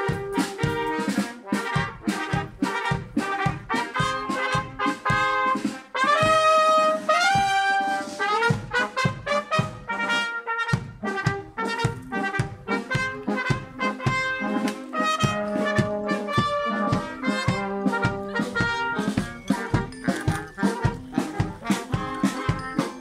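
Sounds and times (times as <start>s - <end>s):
snare drum beat: 0.0s - 23.0s
wind band playing upbeat tune: 0.0s - 23.0s.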